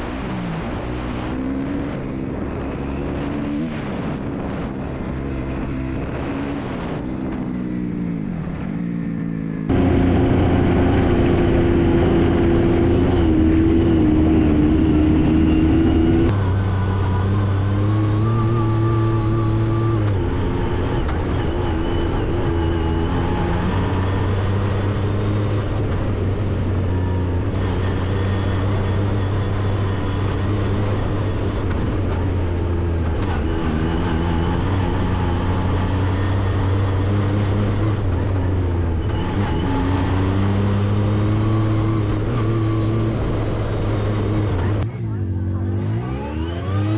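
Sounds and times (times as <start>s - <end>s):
turbocharged engine running: 0.0s - 46.9s.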